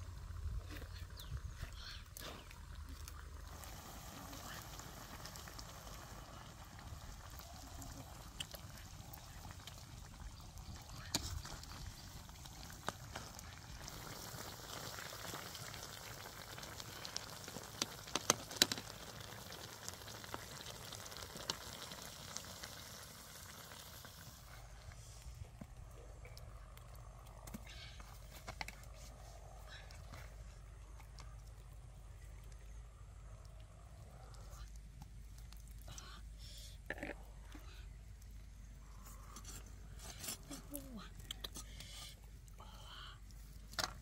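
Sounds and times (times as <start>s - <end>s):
broth bubbling in a wok: 0.0s - 44.0s.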